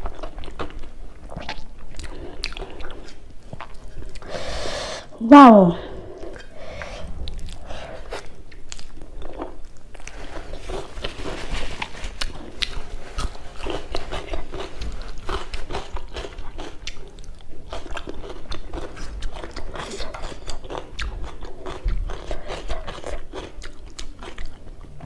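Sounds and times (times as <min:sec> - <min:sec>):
person chewing crunchy food: 0:00.0 - 0:04.6, 0:06.2 - 0:25.0.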